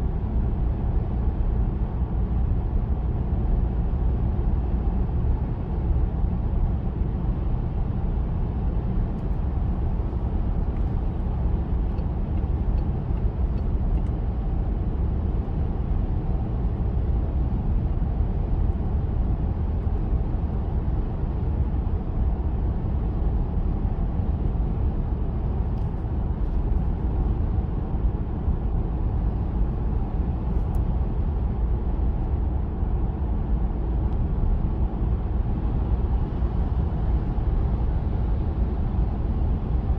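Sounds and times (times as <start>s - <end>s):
car cabin road and engine rumble: 0.0s - 39.9s.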